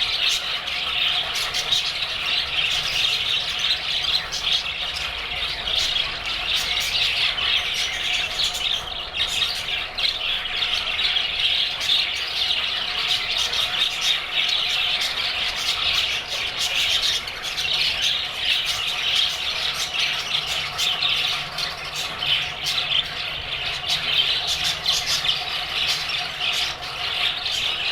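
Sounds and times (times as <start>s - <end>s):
budgerigars chattering and squawking: 0.0s - 27.9s.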